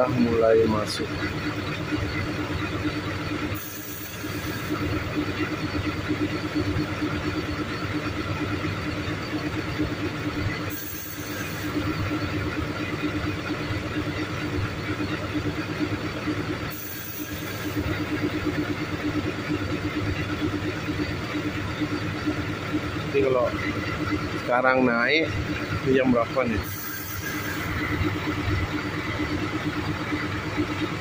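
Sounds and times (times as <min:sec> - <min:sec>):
truck engines running: 0:00.0 - 0:31.0.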